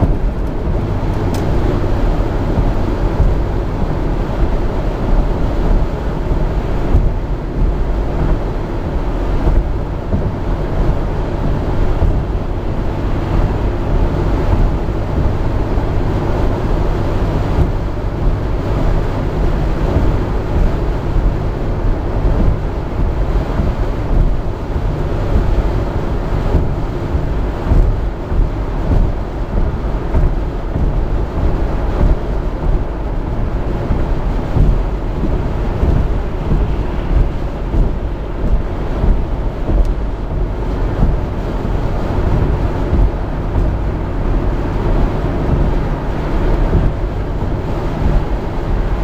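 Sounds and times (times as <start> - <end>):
car driving heard from inside: 0.0 - 49.0.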